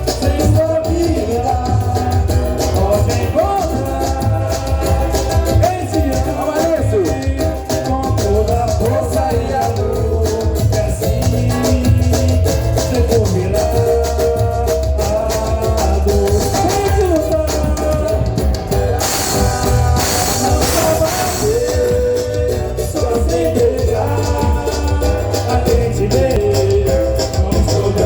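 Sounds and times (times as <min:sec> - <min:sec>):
samba music: 0:00.0 - 0:28.0.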